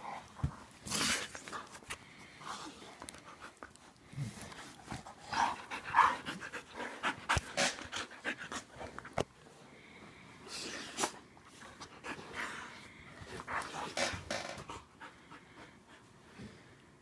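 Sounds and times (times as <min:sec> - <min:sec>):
dogs panting and snuffling: 0:00.0 - 0:09.7, 0:10.3 - 0:16.7.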